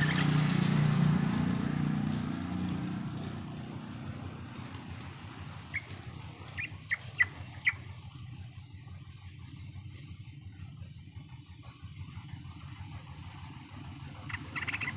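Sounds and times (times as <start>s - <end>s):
bulbul sharp calls: 0.0s - 10.1s, 11.4s - 14.9s
steady low rumble: 0.0s - 14.9s.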